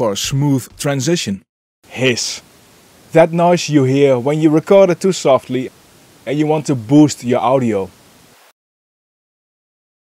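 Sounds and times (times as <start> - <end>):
faint steady hiss: 0.0 - 8.6.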